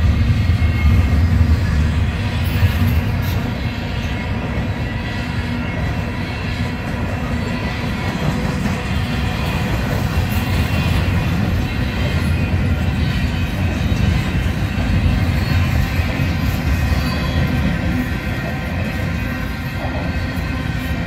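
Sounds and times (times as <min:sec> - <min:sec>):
train wheels on rail: 0:00.0 - 0:21.0.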